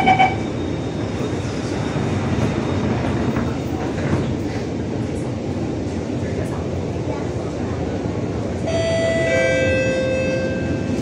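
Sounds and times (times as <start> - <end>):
metro car running noise: 0.0 - 11.0.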